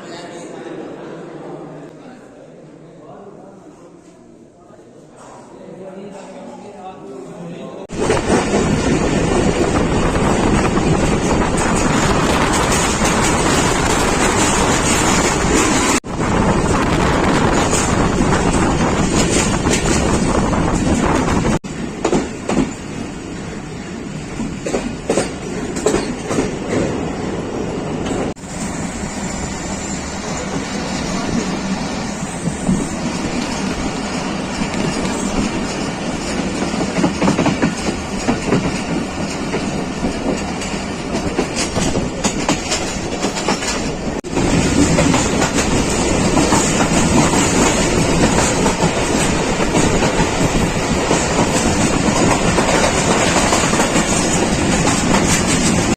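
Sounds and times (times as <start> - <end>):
train wheels rumbling on rails: 7.9 - 23.4, 24.1 - 55.9.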